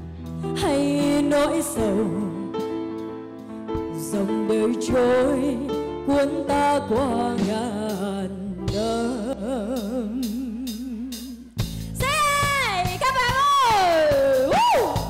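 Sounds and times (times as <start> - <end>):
backing music: 0.0 - 15.0
woman singing into a microphone: 0.4 - 2.6, 3.8 - 15.0.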